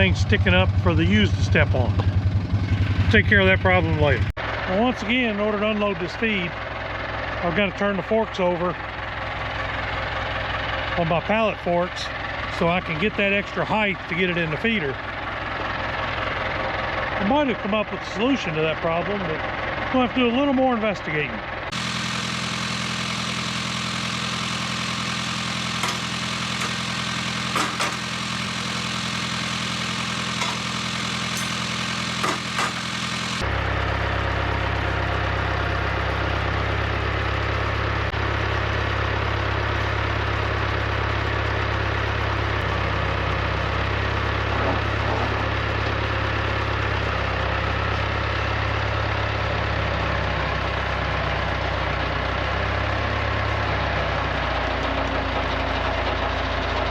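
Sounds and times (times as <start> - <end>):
tractor engine running: 0.0 - 17.2, 21.5 - 56.9.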